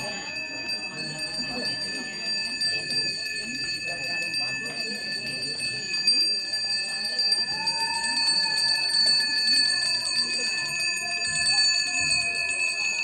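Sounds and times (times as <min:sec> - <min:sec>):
hand bell ringing: 0:00.0 - 0:13.0.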